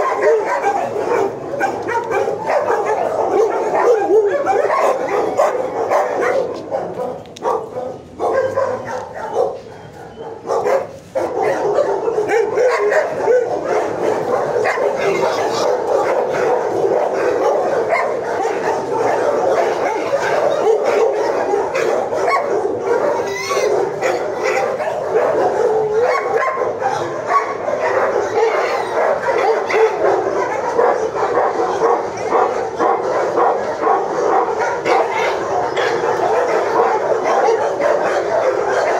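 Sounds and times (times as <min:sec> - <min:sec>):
many dogs barking and whining: 0:00.0 - 0:38.9.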